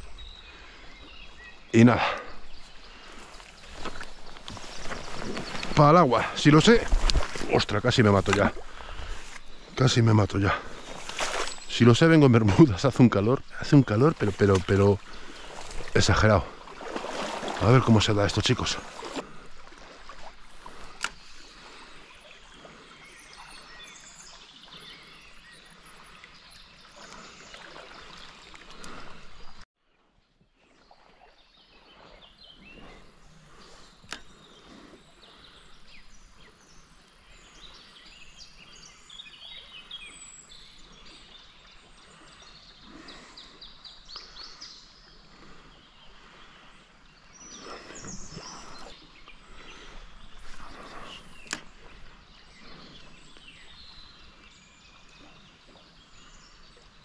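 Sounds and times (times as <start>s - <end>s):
flowing river water: 0.0s - 29.6s, 30.4s - 57.0s
small birds chirping: 0.0s - 29.6s, 30.6s - 57.0s.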